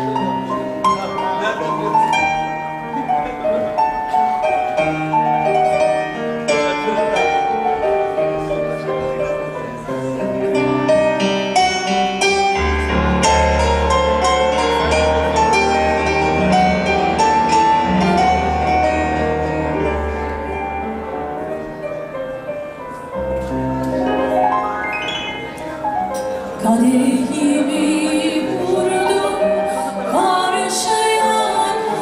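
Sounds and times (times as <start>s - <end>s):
piano playing melody and chords: 0.0s - 32.0s.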